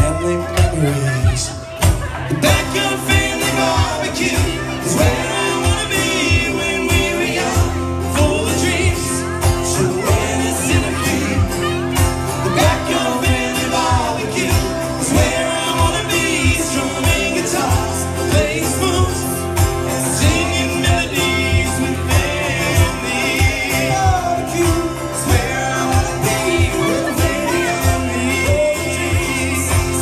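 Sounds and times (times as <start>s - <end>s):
guitars: 0.0s - 30.0s
man singing into a microphone: 0.0s - 30.0s
steady drum beat: 0.0s - 30.0s.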